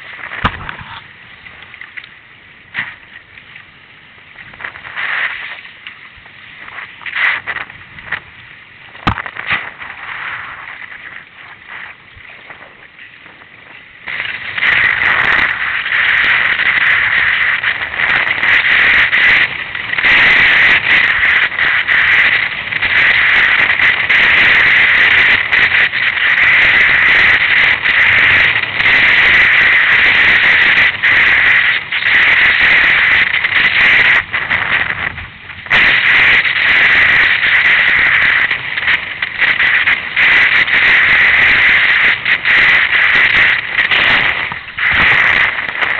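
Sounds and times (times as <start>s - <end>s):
wind rushing on microphone: 0.0s - 45.9s.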